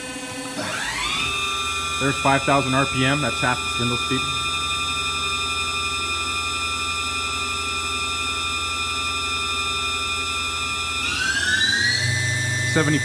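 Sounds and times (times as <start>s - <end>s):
machine spindle whining: 0.0s - 13.0s.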